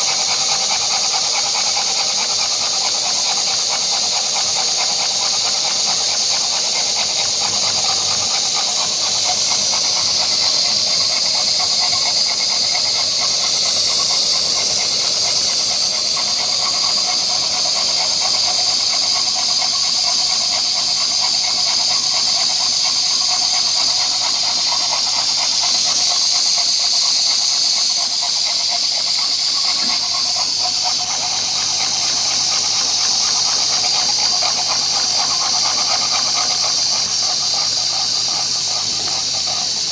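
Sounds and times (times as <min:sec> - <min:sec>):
steam engine hissing: 0:00.0 - 0:39.9.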